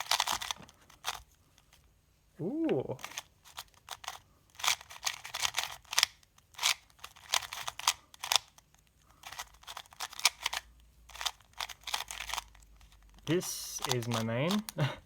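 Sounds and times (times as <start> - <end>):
plastic puzzle cube clicking: 0.0 - 1.2, 3.0 - 14.8.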